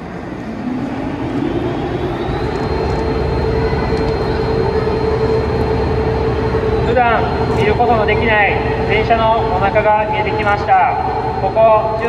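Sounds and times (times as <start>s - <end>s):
overhead crane hoist whining: 0.0s - 12.0s.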